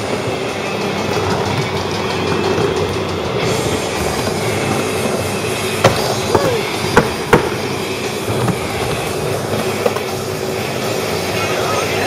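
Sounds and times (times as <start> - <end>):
skateboard clacks: 0.0 - 12.0
skateboard wheels rumbling: 0.0 - 12.0.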